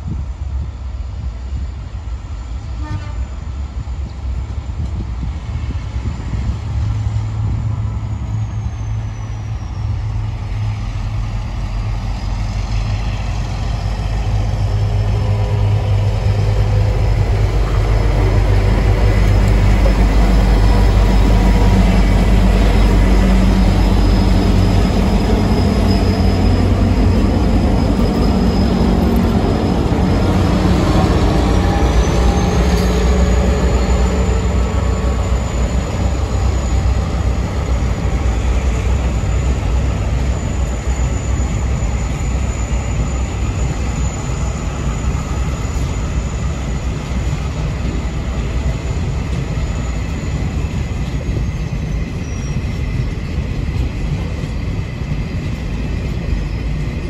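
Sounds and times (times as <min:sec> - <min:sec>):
diesel locomotive engine drone: 0:00.0 - 0:57.0
train wheel and rail noise: 0:00.0 - 0:57.0.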